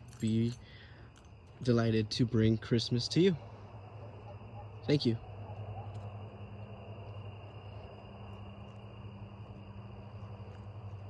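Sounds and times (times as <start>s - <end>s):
crickets trilling: 0.0s - 11.0s
low steady hum: 0.0s - 11.0s.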